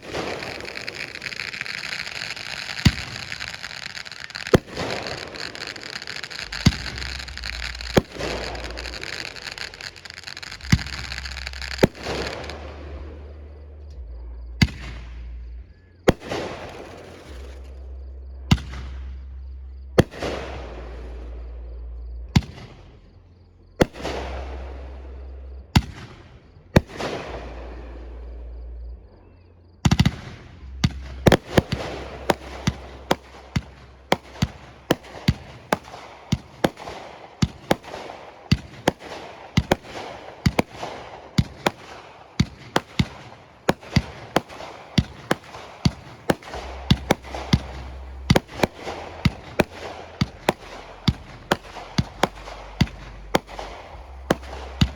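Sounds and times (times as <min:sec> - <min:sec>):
fireworks bangs with crackle: 0:00.0 - 0:13.3, 0:16.1 - 0:17.8, 0:18.5 - 0:19.2, 0:20.0 - 0:21.4, 0:23.8 - 0:25.2, 0:25.8 - 0:28.2, 0:29.8 - 0:54.9
rapid fireworks barrage: 0:00.0 - 0:23.0, 0:23.8 - 0:29.0, 0:29.8 - 0:54.9.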